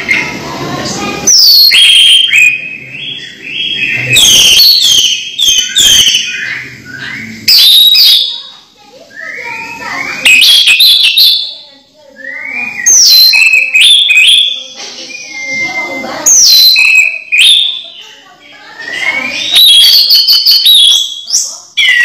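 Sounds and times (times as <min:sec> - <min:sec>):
thrush singing whistled notes: 0:01.2 - 0:08.4, 0:09.0 - 0:18.0, 0:18.6 - 0:22.0.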